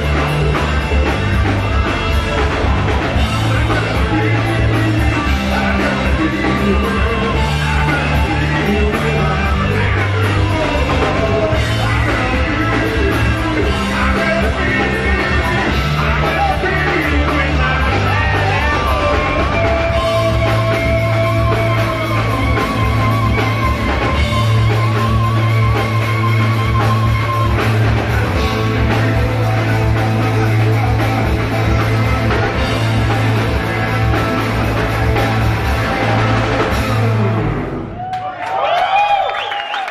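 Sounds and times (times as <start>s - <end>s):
lead singer singing: 0.0s - 37.5s
rock band playing live: 0.0s - 39.9s.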